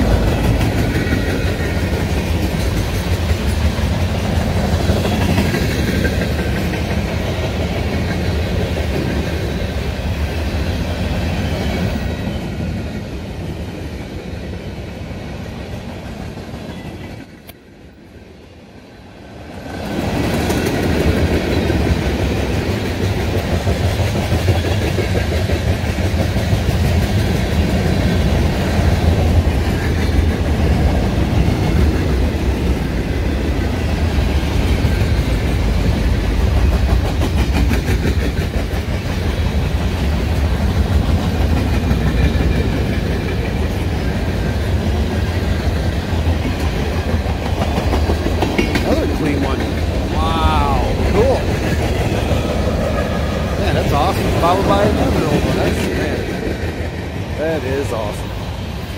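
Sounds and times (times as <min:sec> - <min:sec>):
clickety-clack of wheels over rail joints: 0:00.0 - 0:17.7, 0:19.2 - 0:50.2, 0:50.8 - 0:58.9
freight train cars rumbling past: 0:00.0 - 0:58.9.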